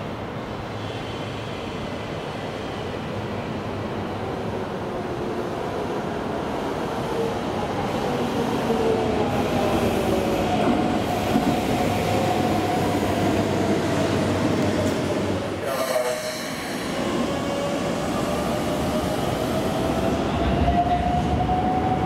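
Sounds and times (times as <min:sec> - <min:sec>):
train wheel and rail noise: 0:00.0 - 0:22.0.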